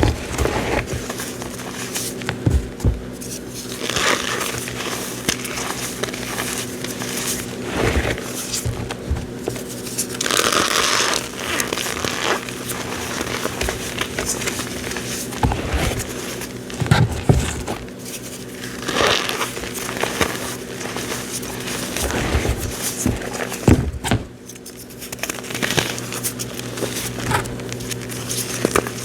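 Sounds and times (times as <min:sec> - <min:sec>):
cornstarch squeaky crunching: 0:00.0 - 0:16.9, 0:17.9 - 0:23.7, 0:24.4 - 0:29.0.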